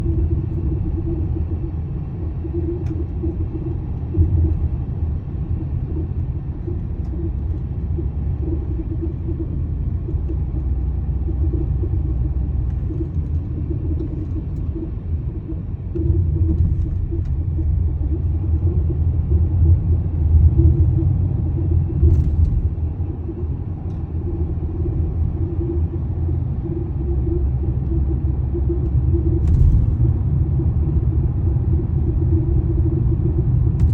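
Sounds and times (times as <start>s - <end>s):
car road rumble: 0.0s - 33.9s
pulsing hum: 0.0s - 33.9s.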